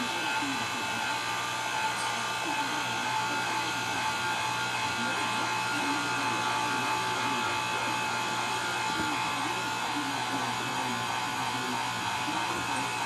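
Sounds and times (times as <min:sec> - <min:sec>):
pasta machine motor whining: 0:00.0 - 0:13.0.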